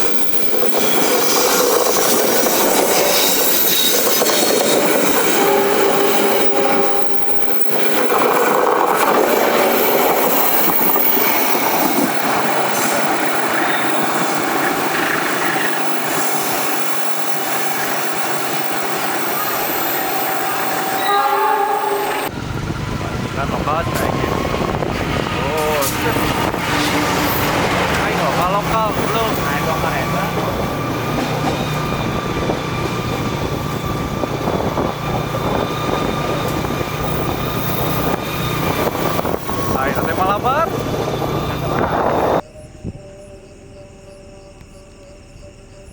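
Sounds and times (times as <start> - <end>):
train wheels on rails: 0.0 - 21.2, 21.9 - 42.4
train rumbling past: 0.0 - 43.6.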